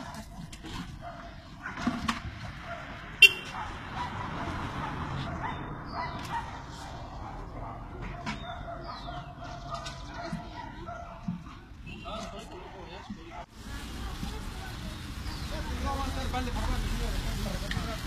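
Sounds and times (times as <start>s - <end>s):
busy street bustle: 1.8s - 18.0s.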